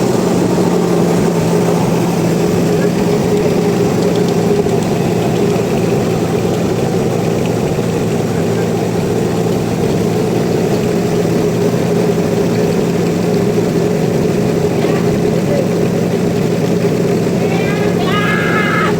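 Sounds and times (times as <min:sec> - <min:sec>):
sawmill engine droning: 0:00.0 - 0:18.9.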